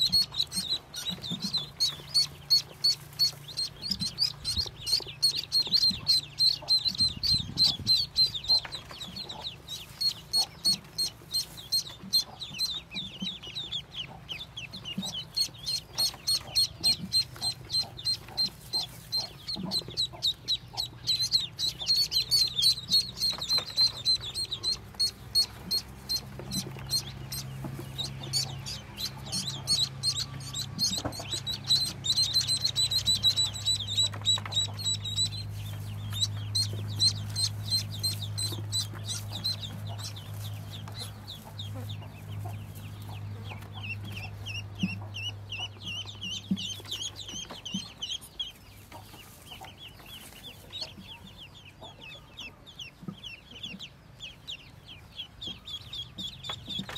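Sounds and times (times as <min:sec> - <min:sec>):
ducklings peeping: 0:00.0 - 0:56.9.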